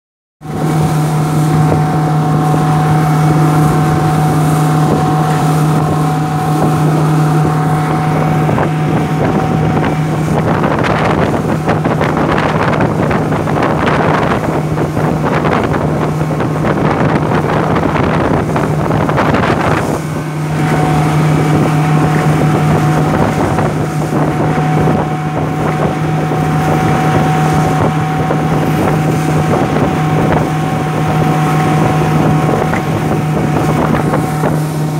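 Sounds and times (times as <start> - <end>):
motorboat engine droning: 0.4 - 34.9
water rushing past hull: 0.4 - 34.9
wind buffeting microphone: 0.4 - 34.9.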